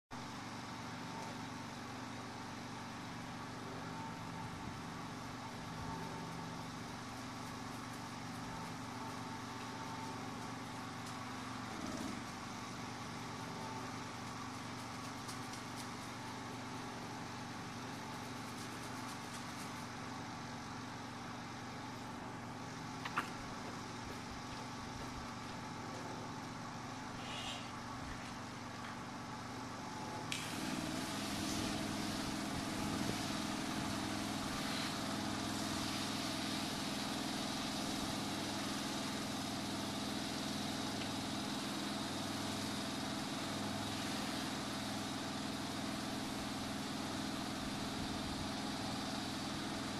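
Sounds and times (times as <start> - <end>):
spray rig engine running: 0.2 - 49.9.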